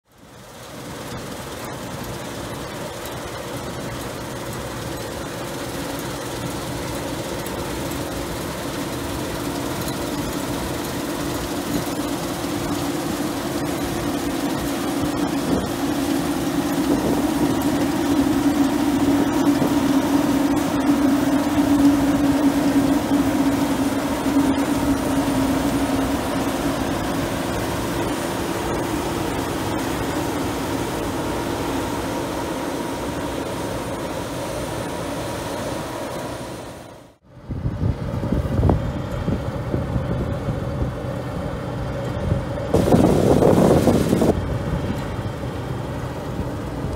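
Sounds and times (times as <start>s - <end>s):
combine harvester drone: 0.0s - 46.9s.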